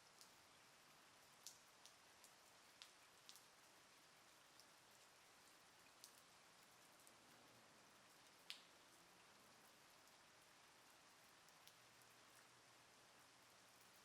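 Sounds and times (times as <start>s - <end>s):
light rain hiss: 0.0s - 14.0s
raindrops ticking on a surface: 0.0s - 14.0s.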